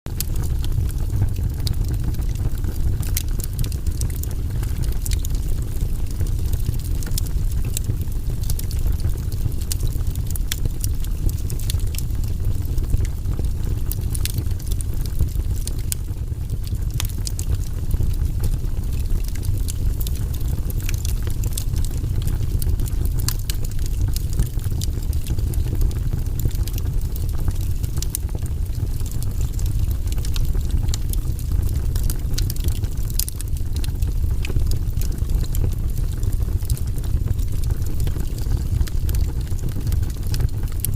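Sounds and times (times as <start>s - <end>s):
low rumble of fire: 0.1s - 40.9s
wood fire crackling: 0.1s - 40.9s.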